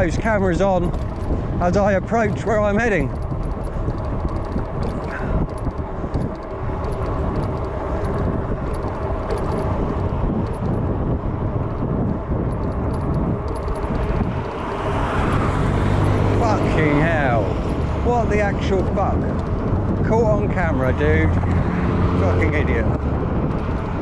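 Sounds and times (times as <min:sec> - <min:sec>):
bike tyre and road noise: 0:00.0 - 0:24.0
wind rushing over microphone: 0:00.0 - 0:24.0.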